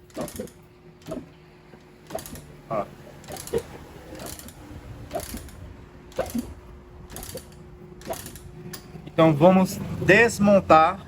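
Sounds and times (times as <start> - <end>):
engine mechanical clacking: 0.0 - 11.0.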